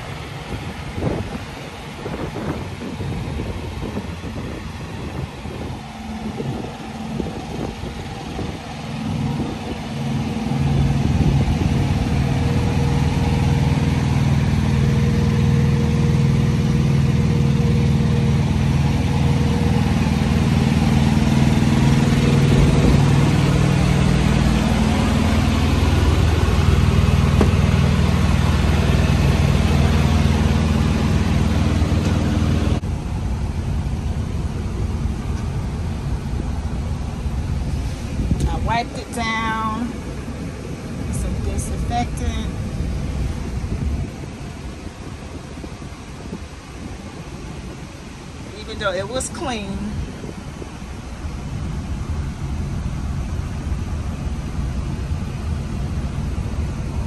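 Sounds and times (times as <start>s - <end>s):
diesel truck engine idling: 0.0s - 57.0s
wind buffeting microphone: 0.0s - 57.0s.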